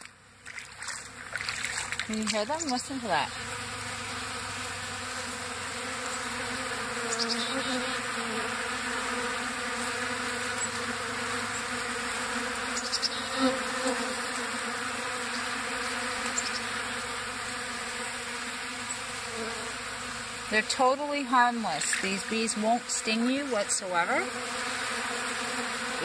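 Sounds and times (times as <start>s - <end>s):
swarm of bees buzzing: 0.4s - 26.0s.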